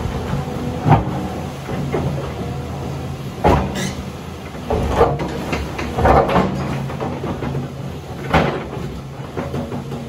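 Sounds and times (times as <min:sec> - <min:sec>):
diesel engine running: 0:00.0 - 0:10.0
heavy stone and steel clunks: 0:00.0 - 0:10.0.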